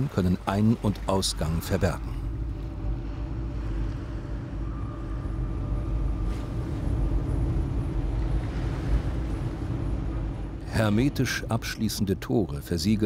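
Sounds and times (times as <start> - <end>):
low rumble with mechanical hum: 0.0 - 13.0.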